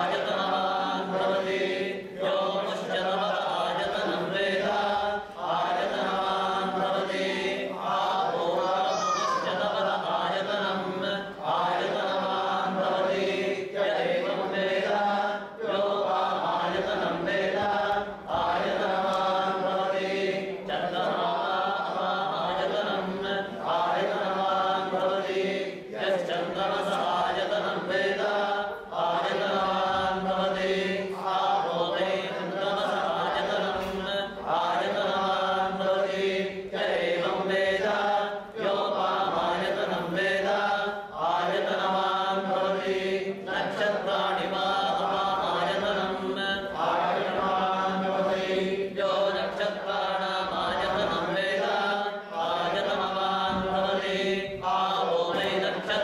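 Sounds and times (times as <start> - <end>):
group chanting mantras: 0.0 - 56.0.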